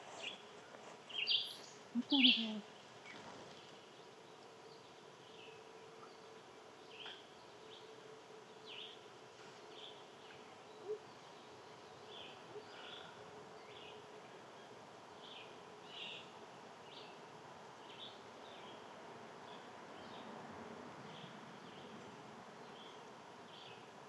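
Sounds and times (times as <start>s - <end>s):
small birds chirping: 0.0s - 20.3s.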